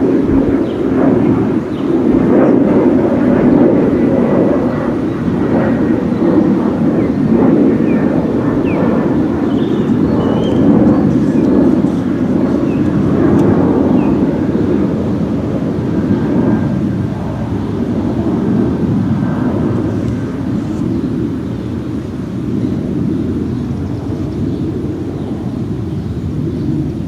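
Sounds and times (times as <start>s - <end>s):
jet airliner deep rumble: 0.0s - 27.0s.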